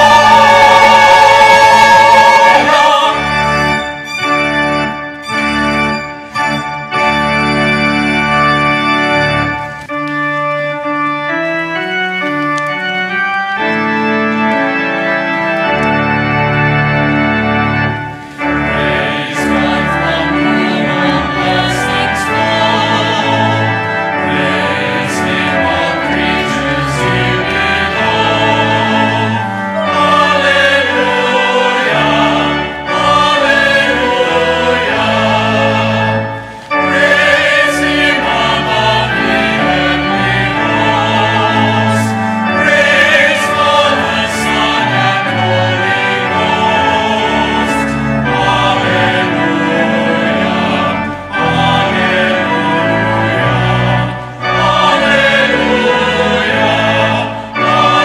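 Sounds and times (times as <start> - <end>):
church choir singing: 0.0 - 58.0
organ chords: 0.0 - 58.0.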